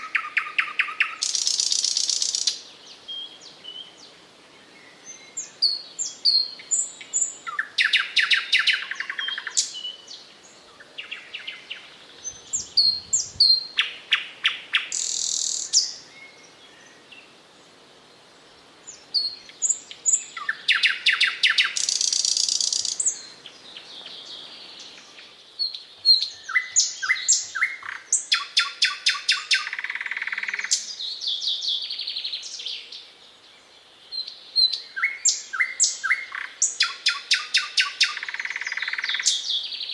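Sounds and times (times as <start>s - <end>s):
nightingale singing: 0.0s - 17.7s, 18.6s - 39.9s.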